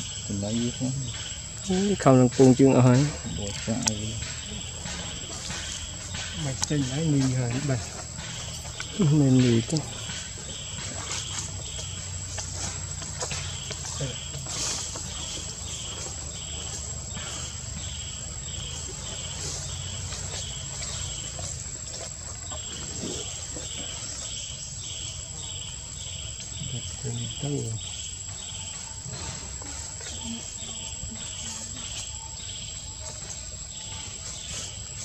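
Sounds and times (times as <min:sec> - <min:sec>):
high-pitched insect whine: 0:00.0 - 0:35.0
insects chirping: 0:00.0 - 0:35.0.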